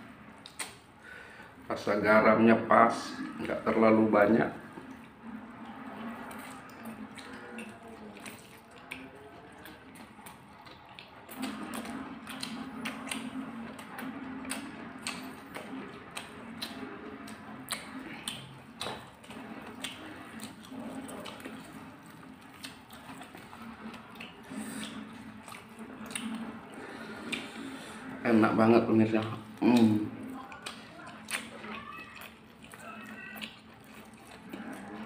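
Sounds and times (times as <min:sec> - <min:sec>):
wet chewing and slurping: 0:00.0 - 0:01.6, 0:02.8 - 0:35.0.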